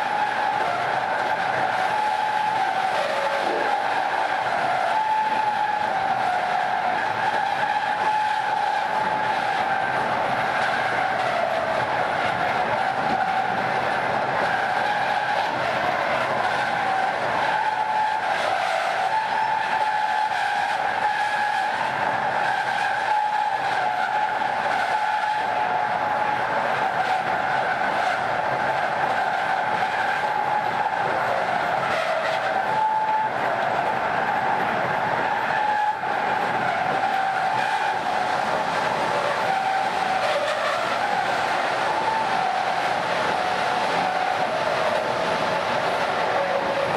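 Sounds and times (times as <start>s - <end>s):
running train noise: 0.0s - 46.9s
train wheels whining on rails: 0.0s - 46.9s.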